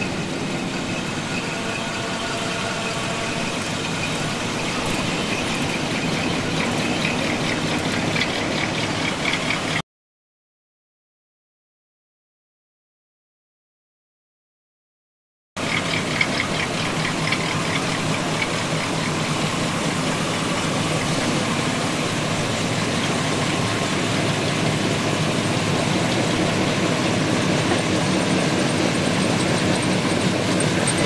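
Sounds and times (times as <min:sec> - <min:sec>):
car engines driving slowly past: 0:00.0 - 0:09.8, 0:15.6 - 0:31.0.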